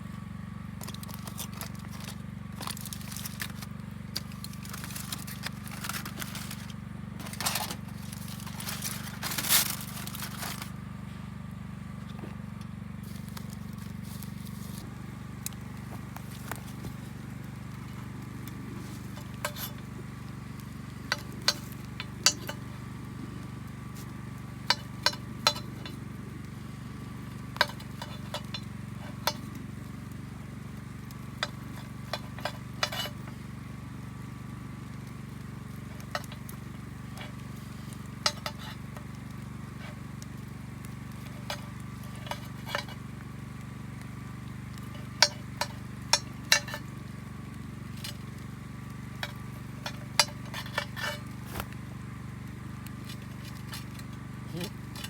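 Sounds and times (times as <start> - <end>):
ribs sizzling over campfire: 0.0 - 55.0.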